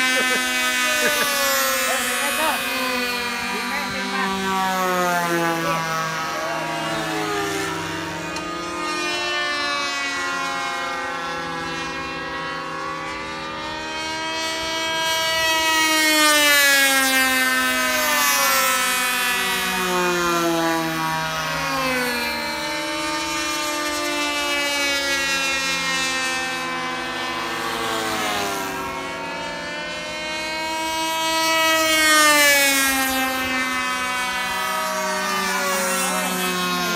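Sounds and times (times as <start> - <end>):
model airplane engines revving: 0.0 - 36.9.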